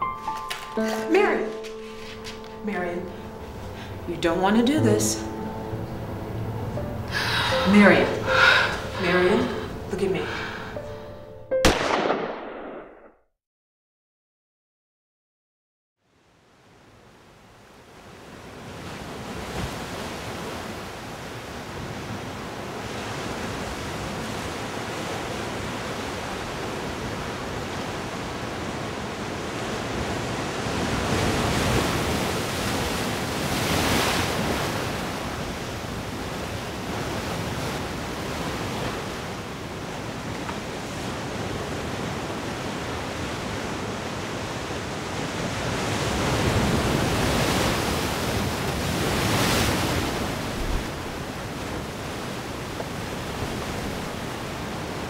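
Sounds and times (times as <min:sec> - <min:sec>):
ocean surf washing in: 0:00.0 - 0:11.0, 0:16.7 - 0:55.0.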